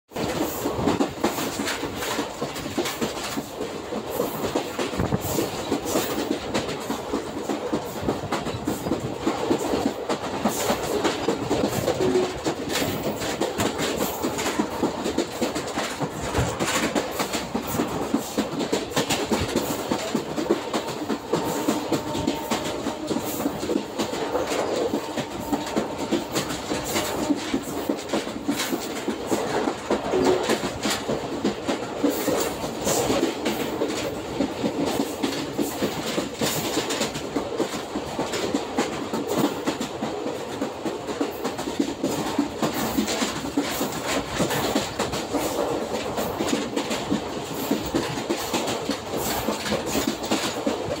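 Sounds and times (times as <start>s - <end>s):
train wheels rumbling on rails: 0.1s - 51.0s
wheels clacking over rail joints: 0.1s - 51.0s.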